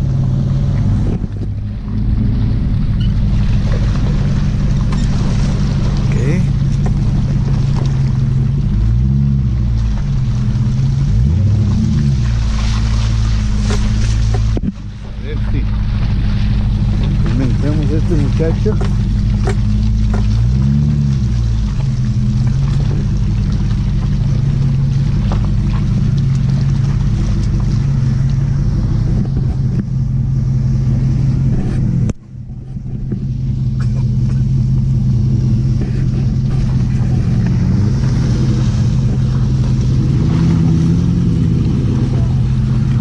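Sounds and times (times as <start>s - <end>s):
car engine revving in mud: 0.0s - 43.0s.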